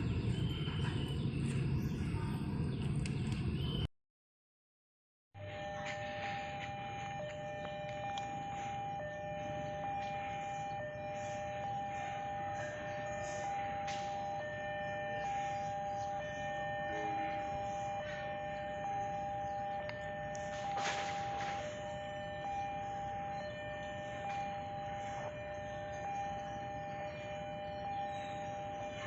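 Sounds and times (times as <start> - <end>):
low traffic rumble: 0.0 - 3.9, 5.4 - 29.0
level crossing alarm tones: 5.4 - 29.0.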